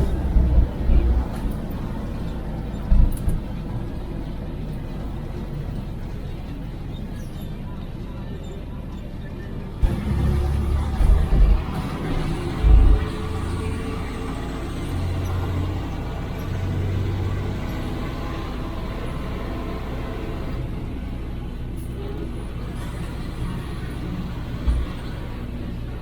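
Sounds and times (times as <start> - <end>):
truck diesel engine running: 0.0 - 6.9, 9.5 - 26.0.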